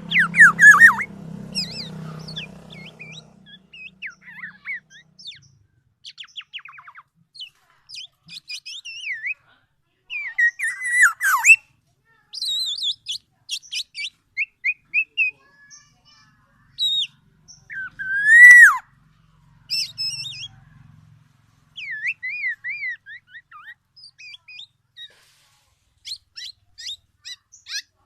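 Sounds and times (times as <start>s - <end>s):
bird calling with whistles and chatter: 0.0s - 9.4s, 10.1s - 11.7s, 12.3s - 18.9s, 19.7s - 20.6s, 21.7s - 25.4s, 26.0s - 28.0s.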